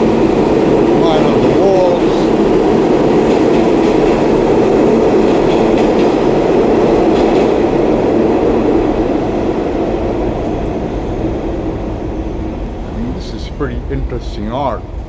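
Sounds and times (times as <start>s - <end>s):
clickety-clack of rail joints: 0.0s - 15.0s
subway train wheels rumbling: 0.0s - 15.0s.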